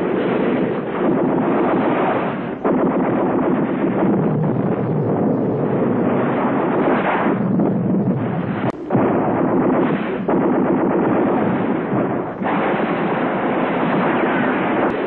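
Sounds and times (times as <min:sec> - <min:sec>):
dense gunfire and blasts: 0:00.0 - 0:15.0.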